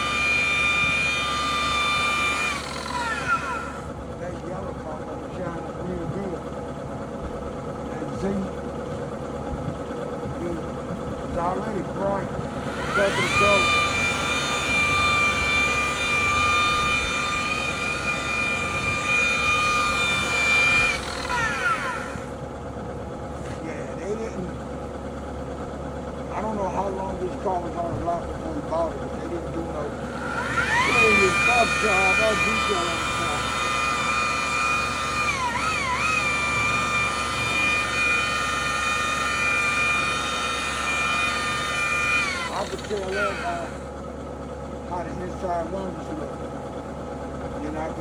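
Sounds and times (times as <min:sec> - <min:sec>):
rotary buffer whining: 0:00.0 - 0:48.0.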